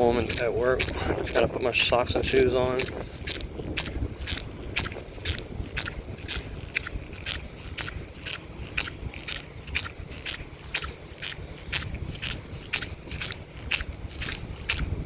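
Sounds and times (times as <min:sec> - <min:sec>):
footsteps crunching on sand: 0:00.0 - 0:15.0
steady low rumble: 0:00.0 - 0:15.0.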